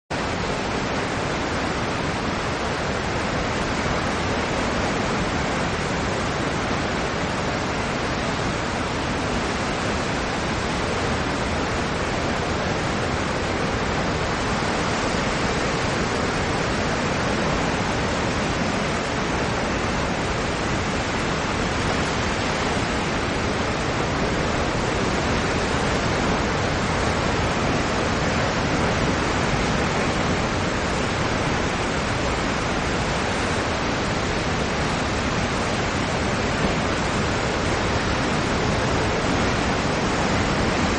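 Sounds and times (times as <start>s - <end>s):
surf breaking over rocks: 0.2s - 40.9s.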